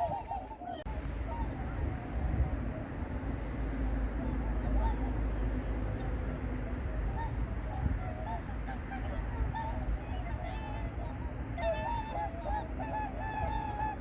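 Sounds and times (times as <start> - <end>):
swans honking: 0.0 - 14.0.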